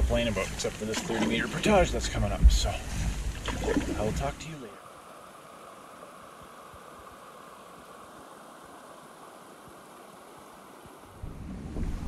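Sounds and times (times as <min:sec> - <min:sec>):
creek water rushing over rocks: 0:00.0 - 0:11.2.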